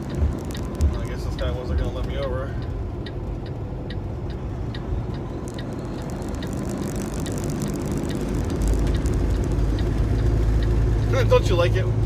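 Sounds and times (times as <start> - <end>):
road noise: 0.0 - 12.0
truck diesel engine drone: 0.0 - 12.0
turn signal ticking: 0.0 - 12.0.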